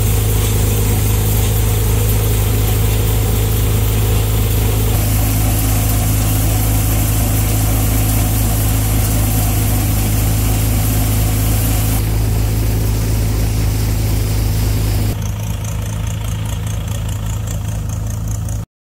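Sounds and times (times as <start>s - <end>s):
tractor engine and thresher humming: 0.0s - 18.6s.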